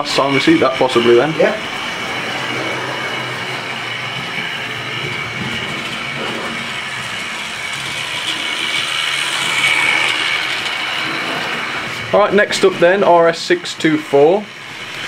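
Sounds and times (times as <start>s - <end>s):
model train whirring on track: 0.0s - 15.0s.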